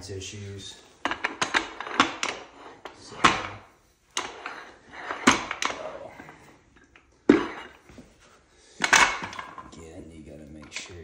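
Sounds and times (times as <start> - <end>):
dumbbell plates clacking: 0.9 - 9.8.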